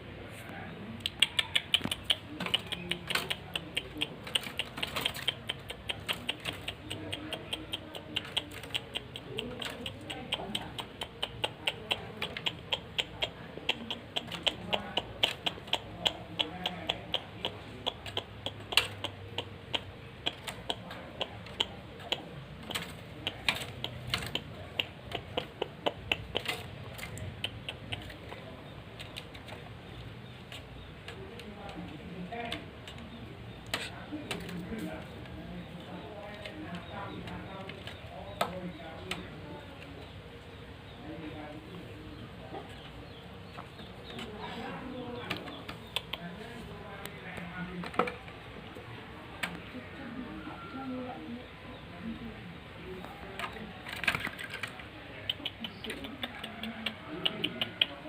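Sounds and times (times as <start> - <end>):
bird clicking calls: 0.9 - 49.8, 52.6 - 58.0.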